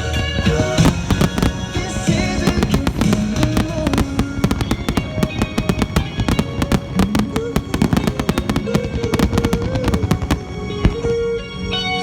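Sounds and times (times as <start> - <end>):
pop song: 0.0 - 11.2
fireworks bangs and crackles: 0.0 - 12.0.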